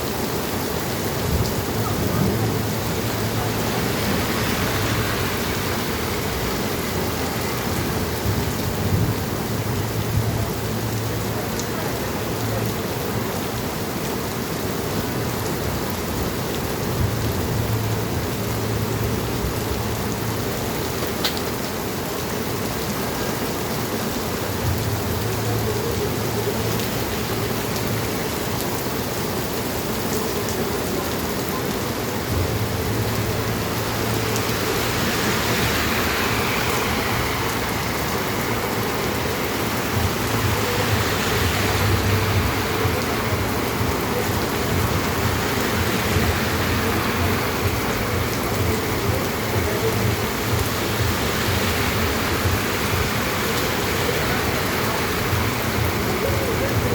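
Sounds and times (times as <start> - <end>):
heavy rain on pavement: 0.0 - 56.9.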